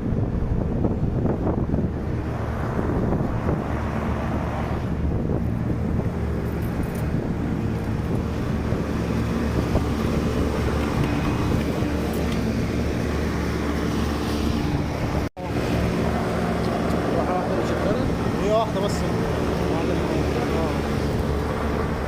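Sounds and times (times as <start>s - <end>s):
fan air rushing: 0.0s - 22.0s.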